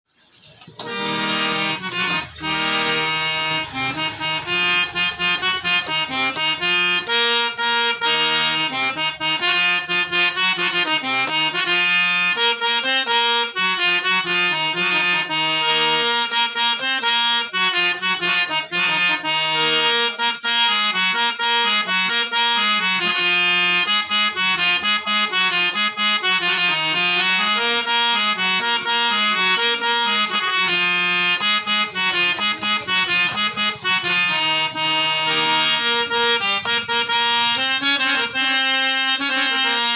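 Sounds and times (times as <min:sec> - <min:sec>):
harmonium melody: 0:00.7 - 0:39.9.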